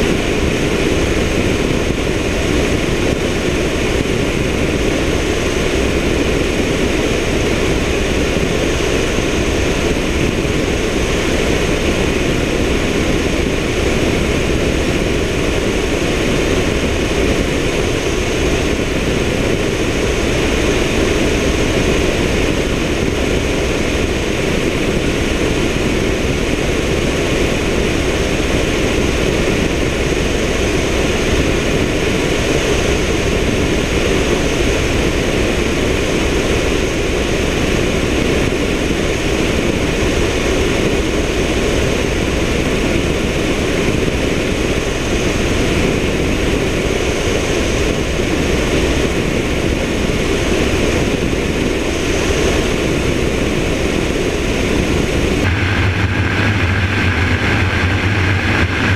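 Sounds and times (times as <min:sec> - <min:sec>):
helicopter in flight: 0:00.0 - 0:58.9.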